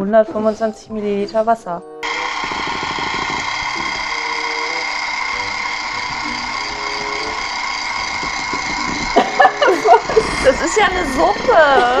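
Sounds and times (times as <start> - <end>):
electric hand mixer whirring: 2.0 - 12.0.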